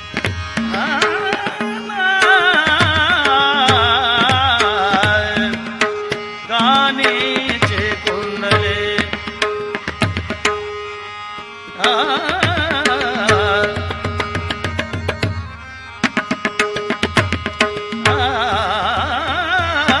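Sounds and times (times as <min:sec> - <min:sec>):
tabla drum strokes: 0:00.0 - 0:10.8, 0:12.4 - 0:18.6.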